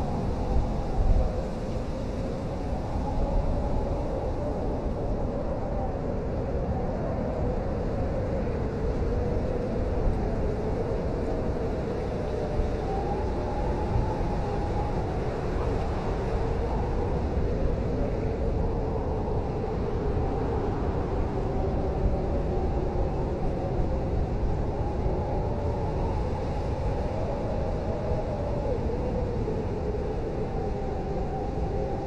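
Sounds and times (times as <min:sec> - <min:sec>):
blizzard wind howling: 0:00.0 - 0:32.0.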